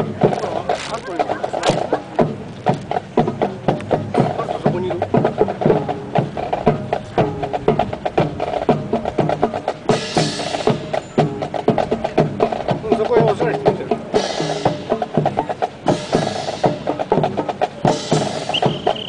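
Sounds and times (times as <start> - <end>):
rifles and boots clacking: 0.0 - 19.0.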